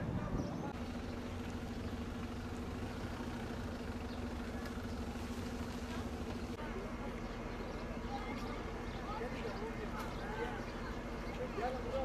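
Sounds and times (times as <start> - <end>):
fire engine droning hum: 0.0 - 12.0.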